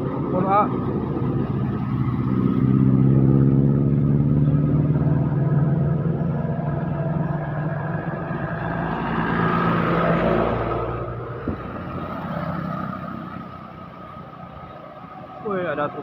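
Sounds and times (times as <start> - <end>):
truck diesel engine passing: 0.0 - 16.0
vehicle approaching: 0.0 - 16.0.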